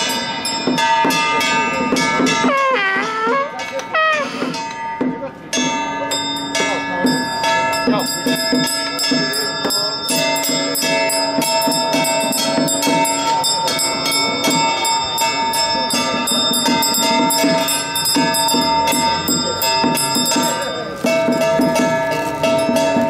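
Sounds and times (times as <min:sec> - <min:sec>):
bells ringing: 0:00.0 - 0:23.0.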